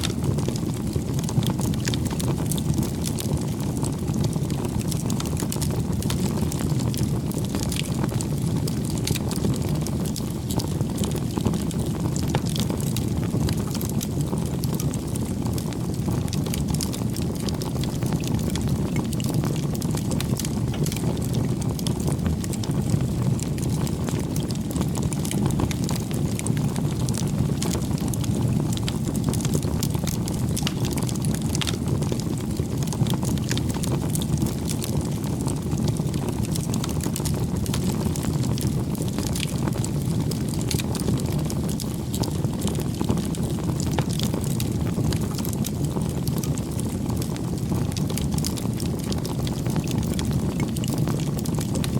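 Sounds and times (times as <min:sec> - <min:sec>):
bonfire flames crackling: 0:00.0 - 0:51.9.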